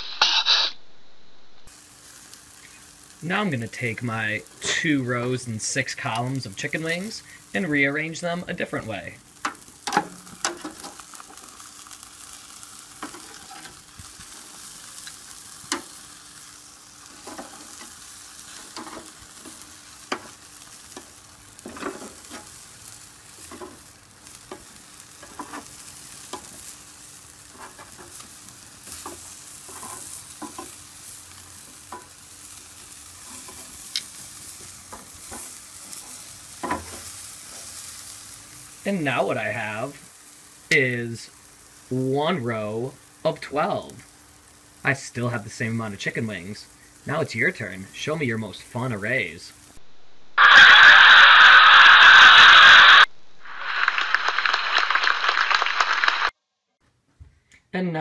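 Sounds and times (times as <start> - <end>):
chicken wings sizzling on grill: 1.7 - 49.8, 50.4 - 56.3.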